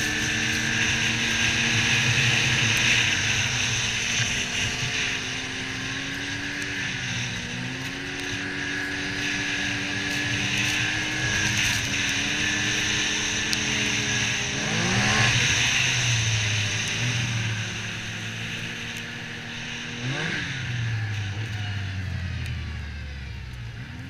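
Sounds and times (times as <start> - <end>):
snowmobile engine running: 0.0 - 24.0.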